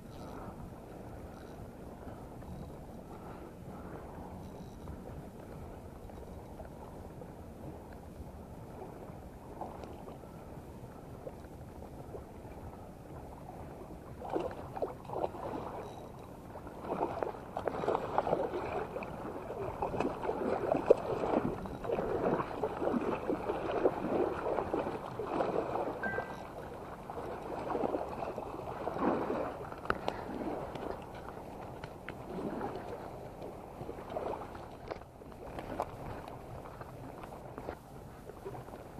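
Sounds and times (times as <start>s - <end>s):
water lapping: 0.0s - 38.9s.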